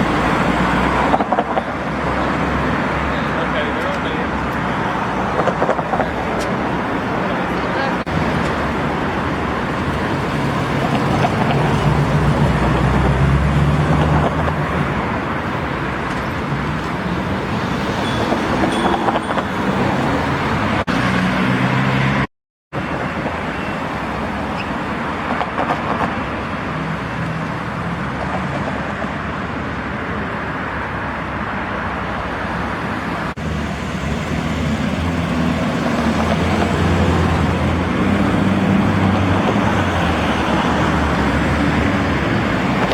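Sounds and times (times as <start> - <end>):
cars driving past: 0.0 - 42.9.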